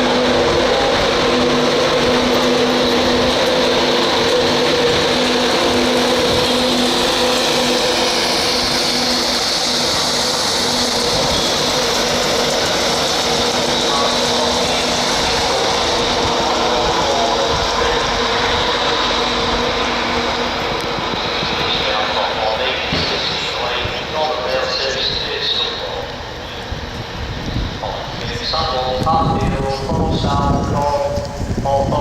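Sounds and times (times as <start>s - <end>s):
constant rushing noise: 0.0s - 32.0s
electric locomotive hum and whine: 0.0s - 32.0s.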